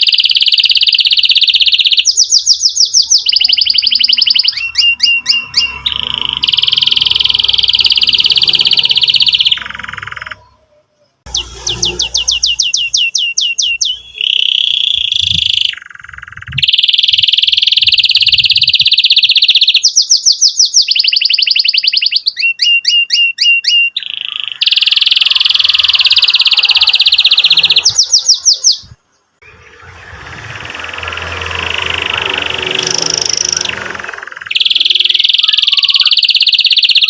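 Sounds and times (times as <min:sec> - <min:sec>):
canary singing trills: 0:00.0 - 0:37.0.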